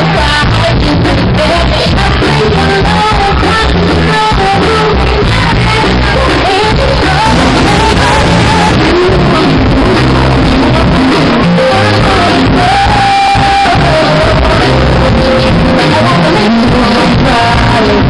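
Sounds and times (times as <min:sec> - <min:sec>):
live rock band: 0:00.0 - 0:18.0
woman singing: 0:00.0 - 0:18.0.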